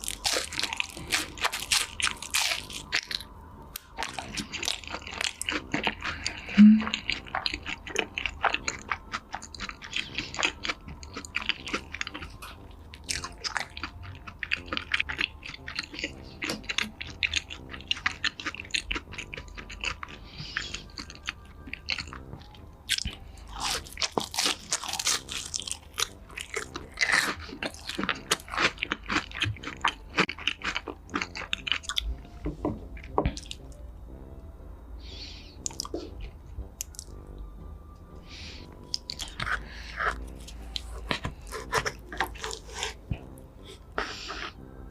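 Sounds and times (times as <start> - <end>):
crunchy chewing of food: 0.0 - 33.8, 35.1 - 37.4, 38.2 - 44.9.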